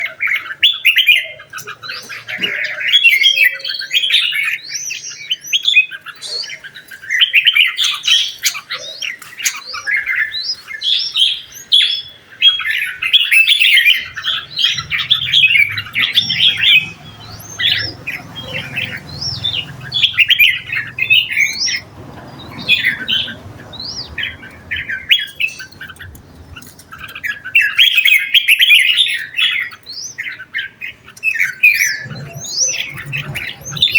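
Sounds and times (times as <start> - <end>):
bird chirping and squawking: 0.0 - 33.9.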